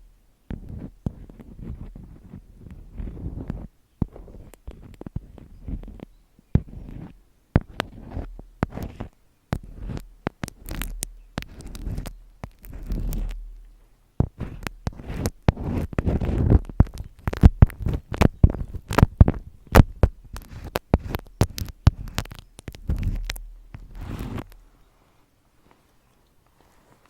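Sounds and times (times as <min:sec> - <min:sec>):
low rubbing and rustling: 0:00.0 - 0:27.0
sharp taps and clicks: 0:02.7 - 0:24.6.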